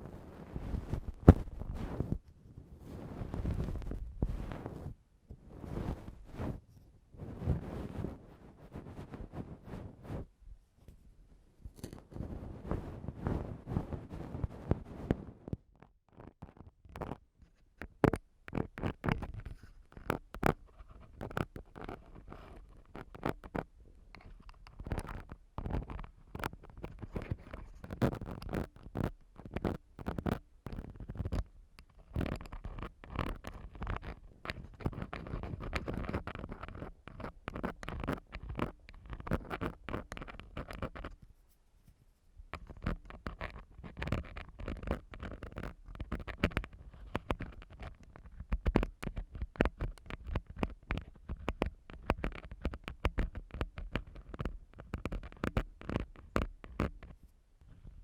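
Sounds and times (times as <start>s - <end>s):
tools scraping on a microphone: 0.0s - 11.0s, 11.6s - 58.0s.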